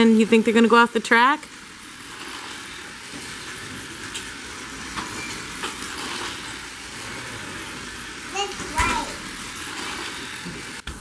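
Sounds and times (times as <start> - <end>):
toy race cars running on track: 0.2 - 10.8.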